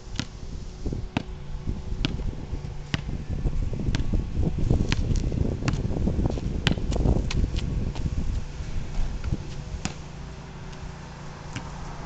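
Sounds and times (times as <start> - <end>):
wind rumble on microphone: 0.0 - 12.0
basketball bouncing on asphalt: 0.1 - 0.5, 1.1 - 11.9.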